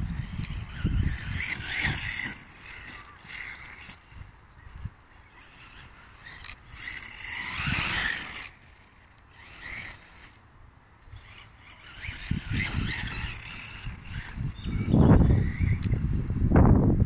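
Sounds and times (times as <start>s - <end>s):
wind buffeting microphone: 0.0s - 8.4s, 11.1s - 17.0s
electric motor whining: 0.0s - 10.5s, 11.1s - 16.3s.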